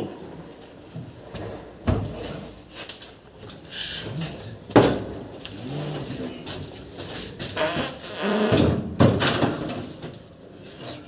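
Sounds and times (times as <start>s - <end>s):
faint workshop noise: 0.0s - 11.0s.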